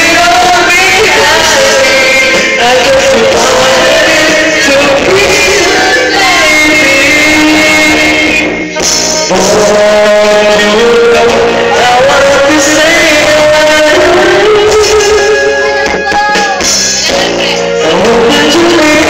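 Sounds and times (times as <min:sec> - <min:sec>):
loud amplified music: 0:00.0 - 0:19.0
man singing into a microphone: 0:00.0 - 0:19.0.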